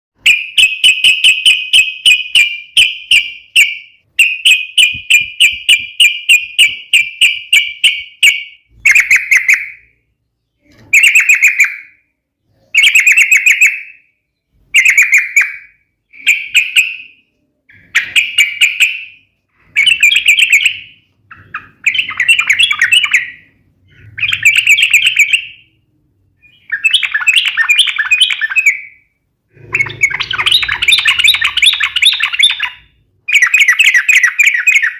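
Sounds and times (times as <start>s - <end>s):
bird singing loudly: 0.2s - 10.0s, 10.6s - 25.8s, 26.4s - 34.9s.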